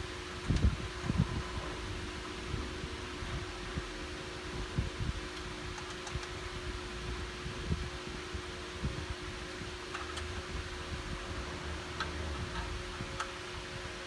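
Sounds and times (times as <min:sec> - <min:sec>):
mechanical hum with hiss: 0:00.0 - 0:14.0.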